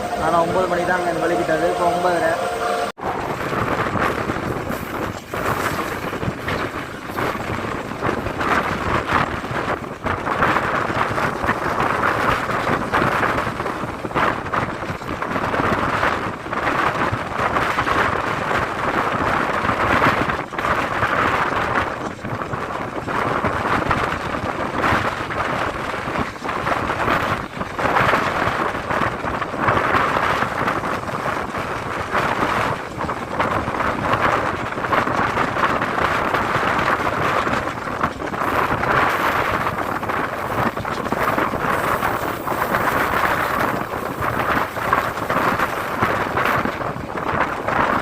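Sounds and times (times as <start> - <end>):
train noise inside carriage: 0.0 - 48.0.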